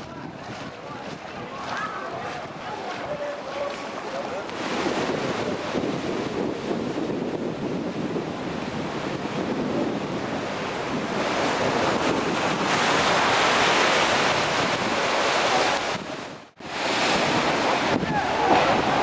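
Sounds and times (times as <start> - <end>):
surf crashing against seawall: 0.0 - 19.0
wind buffeting microphone: 0.0 - 19.0.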